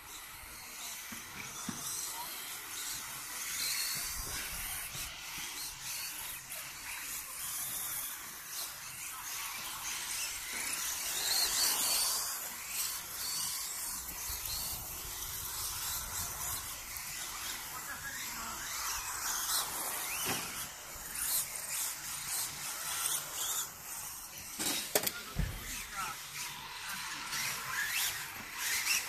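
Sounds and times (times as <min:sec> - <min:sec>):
electric motor whine: 0:00.0 - 0:29.0.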